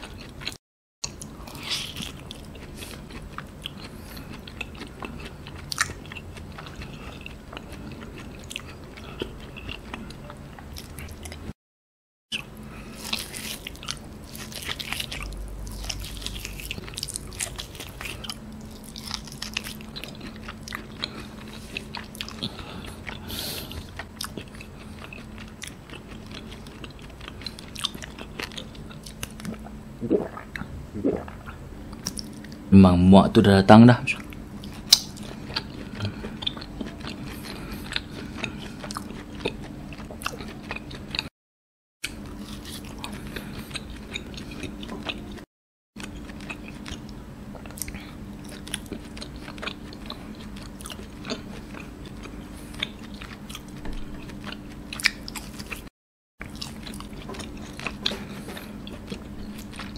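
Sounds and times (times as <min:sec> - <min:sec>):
person chewing meat: 0:00.0 - 0:11.6, 0:12.3 - 0:32.6, 0:34.2 - 0:41.3, 0:42.0 - 0:59.9.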